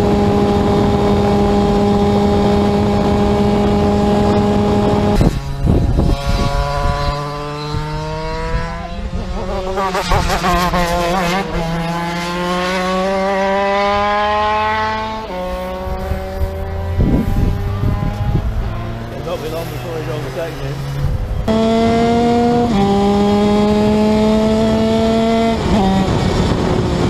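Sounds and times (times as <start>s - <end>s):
kart engine revving high: 0.0s - 27.0s.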